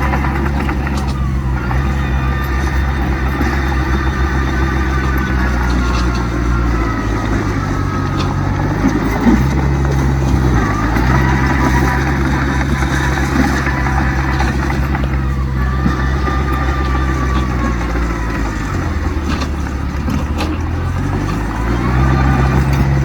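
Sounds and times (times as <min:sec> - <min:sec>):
heavy diesel engines running: 0:00.0 - 0:23.0.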